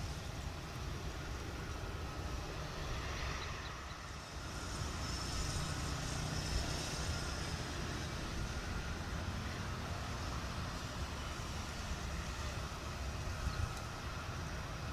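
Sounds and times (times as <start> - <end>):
distant turboprop engines rumbling: 0.0 - 14.9
high engine whine: 0.0 - 14.9.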